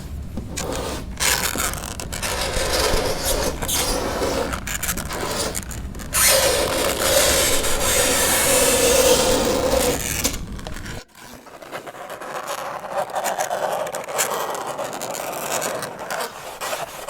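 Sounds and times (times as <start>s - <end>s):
fingernails scraping chalkboard: 0.4s - 17.0s.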